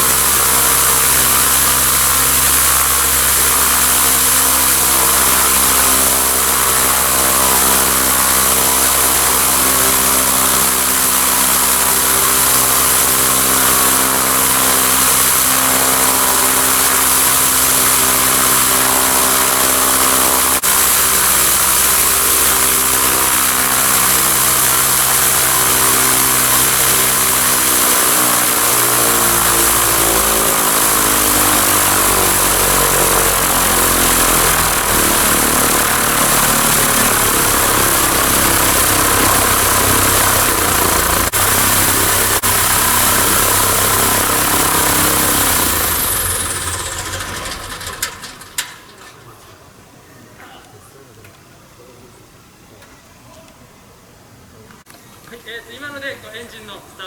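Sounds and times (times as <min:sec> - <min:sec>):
propeller piston engine running: 0:00.0 - 0:49.1
propeller hiss: 0:00.0 - 0:49.4.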